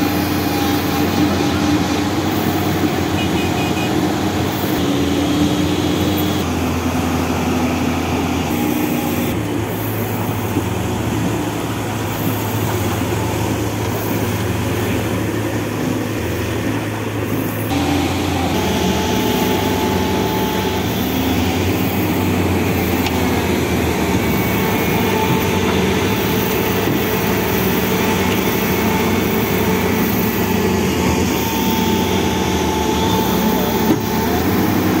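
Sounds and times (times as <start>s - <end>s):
excavator diesel engines running: 0.0s - 35.0s.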